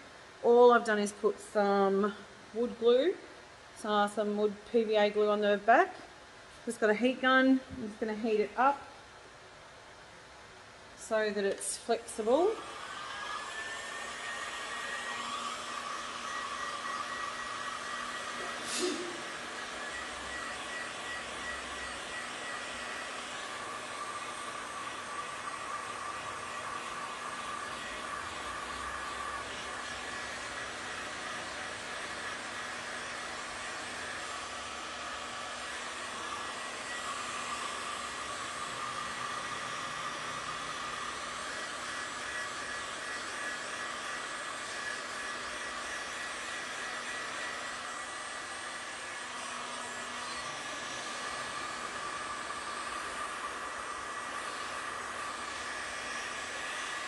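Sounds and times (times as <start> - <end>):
heat gun whining: 11.2 - 57.0.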